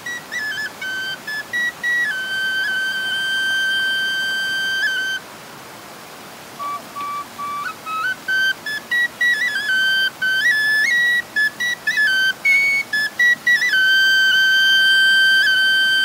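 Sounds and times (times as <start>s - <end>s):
folk flute playing: 0.0s - 5.3s, 6.6s - 16.0s.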